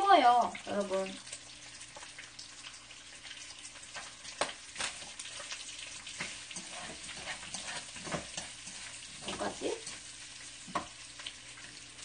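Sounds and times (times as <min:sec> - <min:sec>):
pork sizzling in a frying pan: 0:00.0 - 0:12.0.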